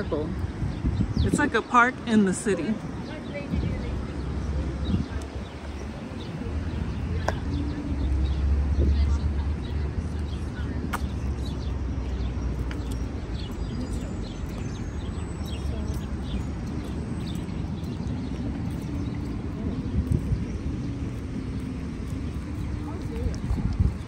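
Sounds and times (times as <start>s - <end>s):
footsteps on paved path: 0.0s - 24.0s
low rumble of street traffic: 0.0s - 24.0s
small birds chirping: 0.0s - 24.0s.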